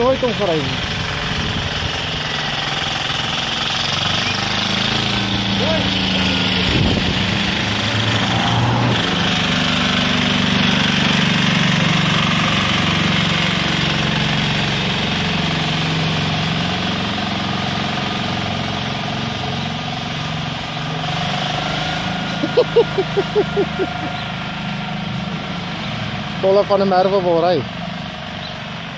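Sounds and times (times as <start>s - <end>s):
garden tractor diesel engine running: 0.0s - 28.9s.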